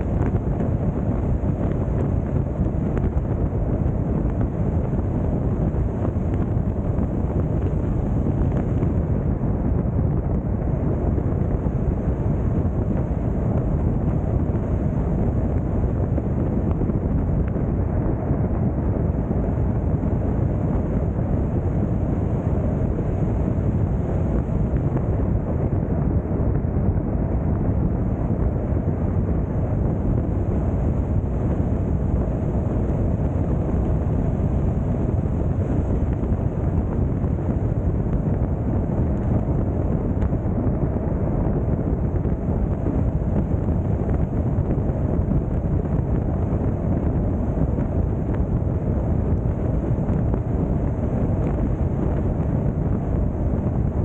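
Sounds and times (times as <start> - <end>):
low tyre rumble: 0.0 - 54.0
rushing wind: 0.0 - 54.0.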